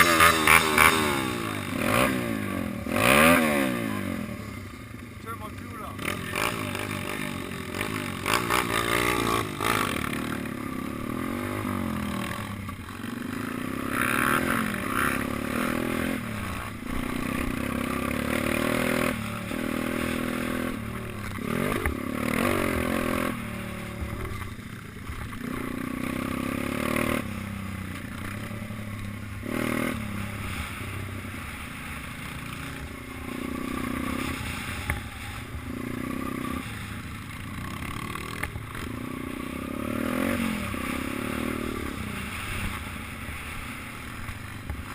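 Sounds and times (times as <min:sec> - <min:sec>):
minibike engine revving: 0:00.0 - 0:44.9.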